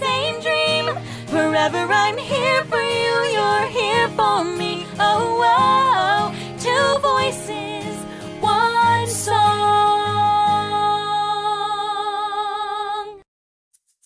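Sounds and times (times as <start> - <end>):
woman singing pop song: 0.0 - 13.2.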